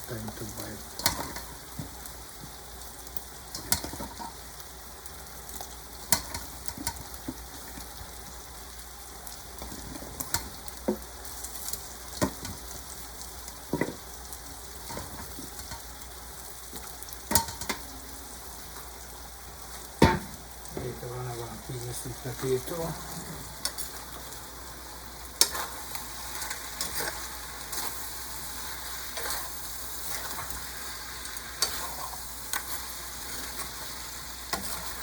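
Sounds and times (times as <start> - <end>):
chicken sizzling in a pot: 0.0 - 35.0.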